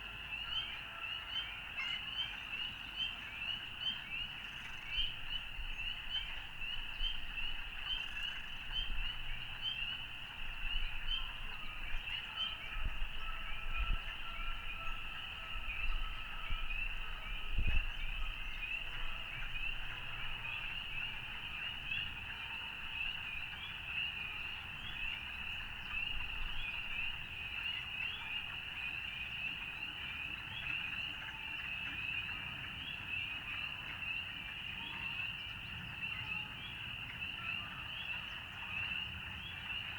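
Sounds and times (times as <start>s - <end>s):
frogs chorus calling: 0.1s - 39.9s.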